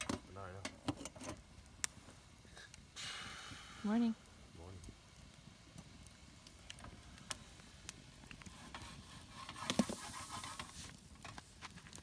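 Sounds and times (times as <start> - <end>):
campfire crackling: 0.0 - 12.0
food sizzling in pan: 0.0 - 12.0.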